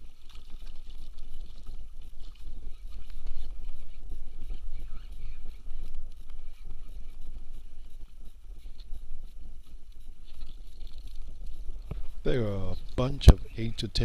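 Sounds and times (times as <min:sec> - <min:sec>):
faint ticks: 0:00.0 - 0:14.0
water noise: 0:00.0 - 0:14.0.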